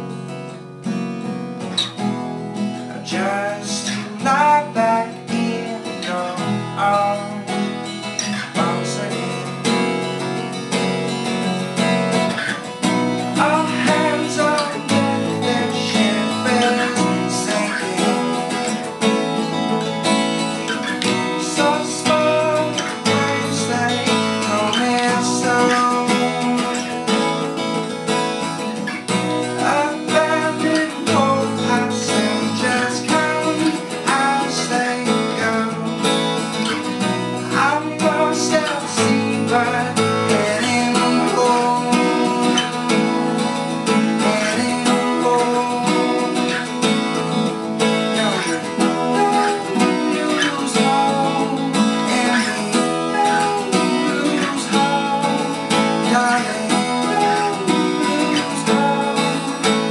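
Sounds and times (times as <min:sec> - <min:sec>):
acoustic guitar strummed and picked: 0:00.0 - 0:59.9.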